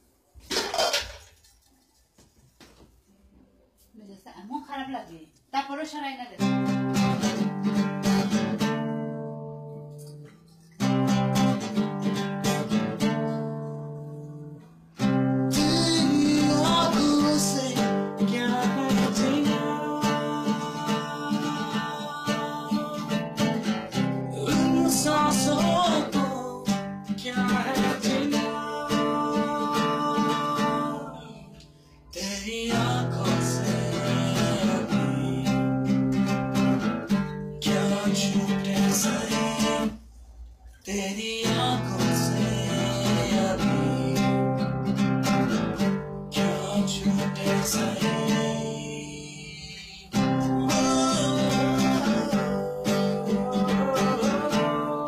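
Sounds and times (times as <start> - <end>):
guitar chords strummed: 6.4 - 40.0, 41.4 - 55.0.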